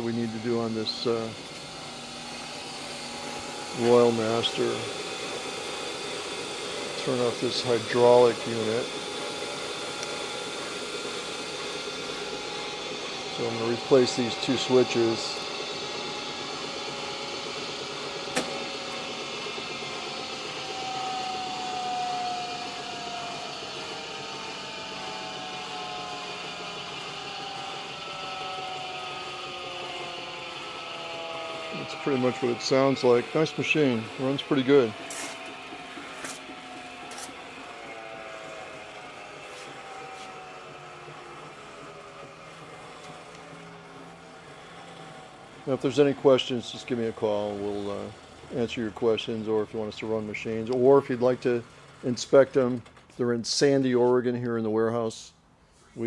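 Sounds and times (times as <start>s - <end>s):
machine whine falling in pitch: 0.0s - 51.6s
grinder machine hum: 0.0s - 54.8s.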